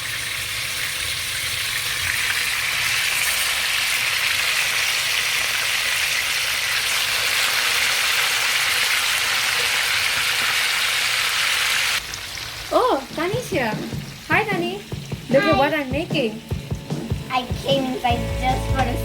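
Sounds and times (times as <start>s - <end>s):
chicken deep-frying in oil: 0.0s - 18.7s.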